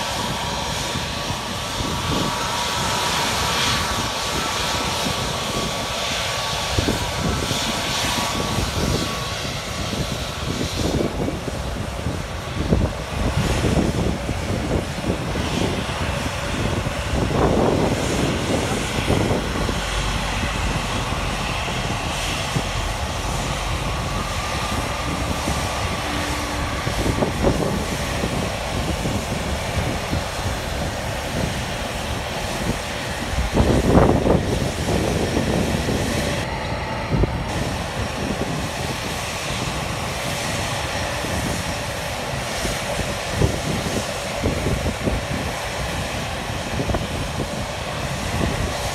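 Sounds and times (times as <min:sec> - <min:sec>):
jet engines roaring: 0:00.0 - 0:48.9
wind buffeting microphone: 0:00.0 - 0:48.9.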